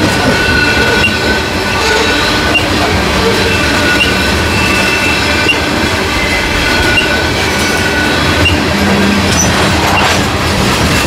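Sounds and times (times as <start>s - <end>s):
high wheel squeal: 0.0s - 10.2s
freight cars rolling on rails: 0.0s - 11.0s.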